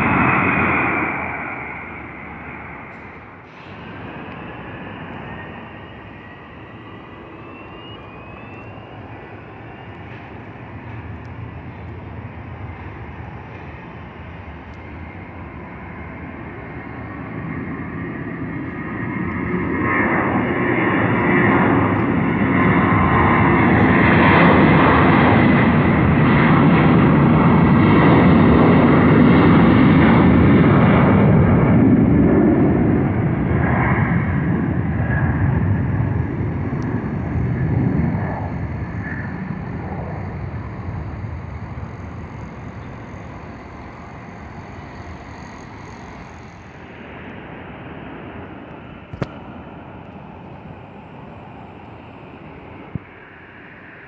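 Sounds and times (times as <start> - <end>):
airplane engines: 0.0 - 54.0.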